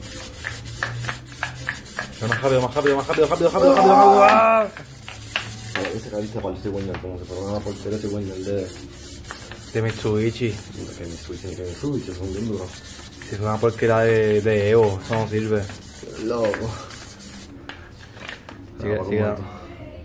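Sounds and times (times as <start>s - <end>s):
sandpaper rasping on metal: 0.0s - 17.6s.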